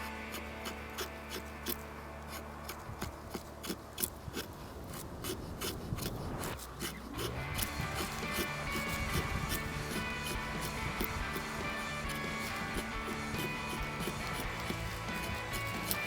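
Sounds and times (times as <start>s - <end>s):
knife carving wood: 0.0s - 16.0s.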